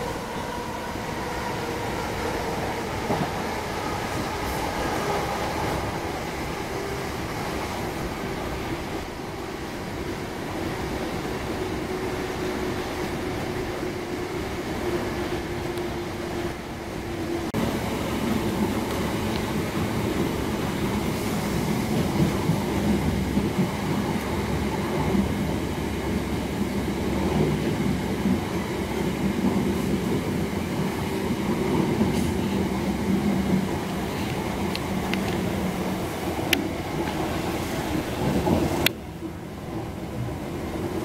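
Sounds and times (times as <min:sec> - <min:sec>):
low train hum: 0:00.0 - 0:41.0
train running on rails: 0:00.0 - 0:41.0.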